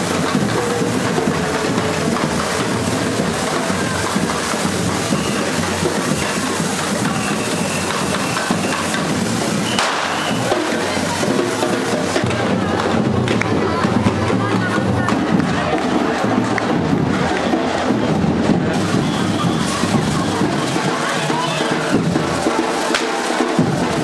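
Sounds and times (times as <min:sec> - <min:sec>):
drumming: 0:00.0 - 0:24.0
fireworks hissing and crackling: 0:00.0 - 0:24.0.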